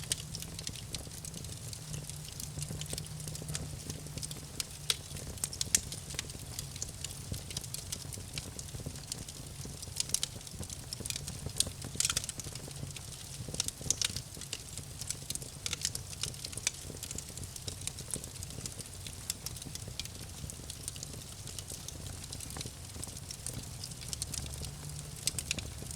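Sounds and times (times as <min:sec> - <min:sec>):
campfire crackling: 0:00.0 - 0:25.9
low fire rumble: 0:00.0 - 0:25.9.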